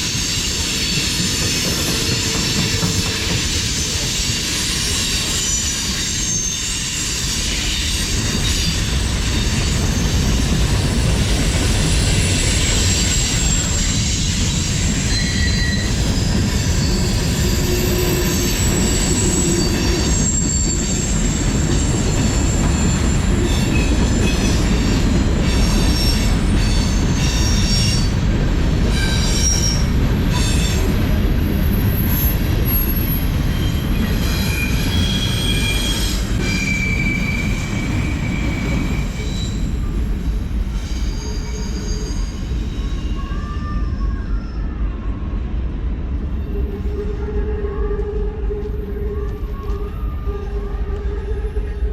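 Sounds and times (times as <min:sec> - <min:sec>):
train wheels rumbling on rail: 0:00.0 - 0:51.9
high-pitched wheel squeal: 0:00.1 - 0:10.2, 0:11.8 - 0:28.2, 0:28.9 - 0:40.1, 0:40.7 - 0:44.7.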